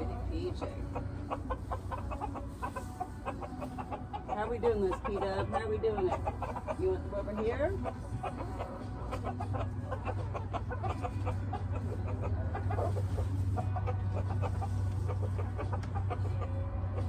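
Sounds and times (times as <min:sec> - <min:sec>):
chickens clucking softly: 0:00.0 - 0:17.0
steady low hum: 0:00.0 - 0:17.0.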